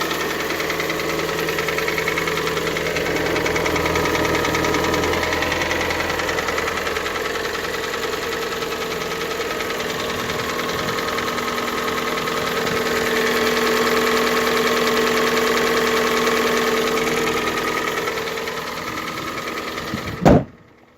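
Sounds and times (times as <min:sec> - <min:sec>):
car engine idling with knocking: 0:00.0 - 0:20.9.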